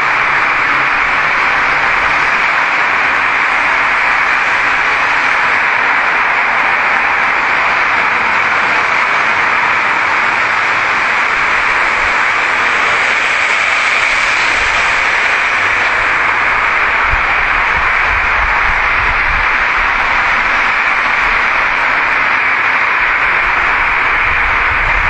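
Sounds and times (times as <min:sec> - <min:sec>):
loud rushing hiss: 0:00.0 - 0:25.0.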